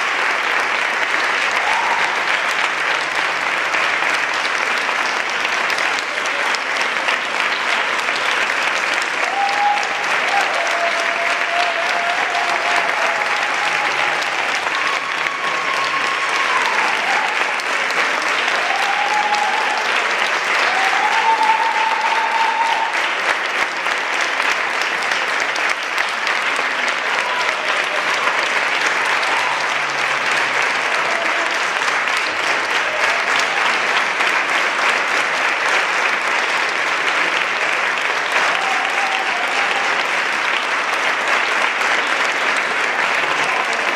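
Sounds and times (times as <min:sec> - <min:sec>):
audience applauding: 0:00.0 - 0:43.9.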